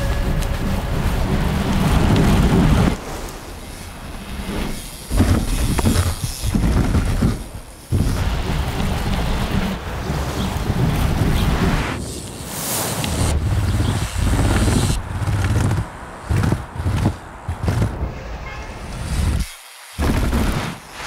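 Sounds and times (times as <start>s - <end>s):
bike tyres rumbling on pavement: 0.0s - 12.0s, 13.2s - 18.1s, 19.1s - 20.9s
wind rushing: 0.0s - 18.2s.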